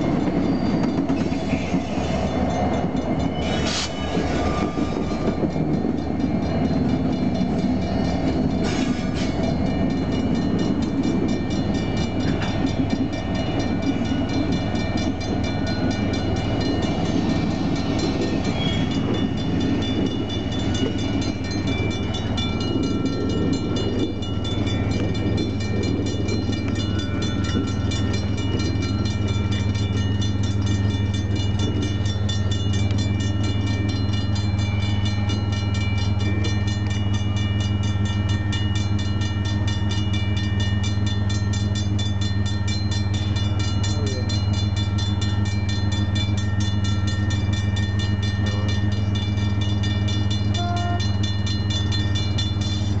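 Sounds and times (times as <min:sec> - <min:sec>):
crossing warning bell ringing: 0:00.0 - 0:53.0.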